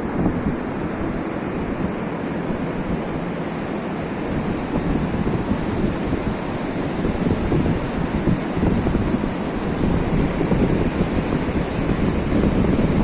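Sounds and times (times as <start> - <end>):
sea: 0.0 - 13.0
wind buffeting microphone: 0.0 - 13.0.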